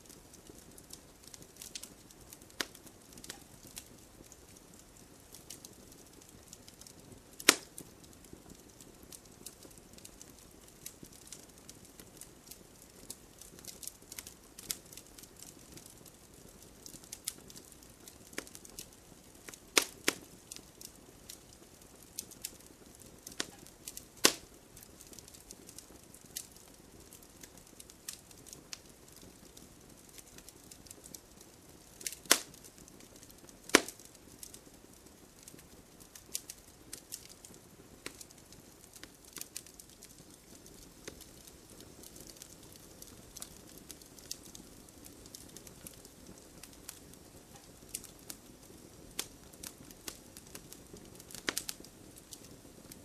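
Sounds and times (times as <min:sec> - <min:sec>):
fire crackling and popping: 0:00.0 - 0:53.0
fire hissing: 0:00.2 - 0:15.8, 0:18.3 - 0:28.8, 0:29.5 - 0:53.0.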